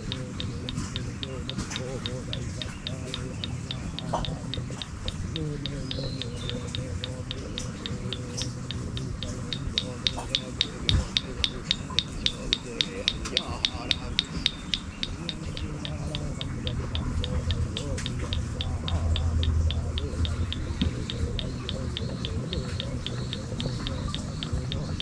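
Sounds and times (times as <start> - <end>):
faint low voice: 0.0 - 14.1, 15.2 - 25.0
sharp high ticks: 0.0 - 25.0.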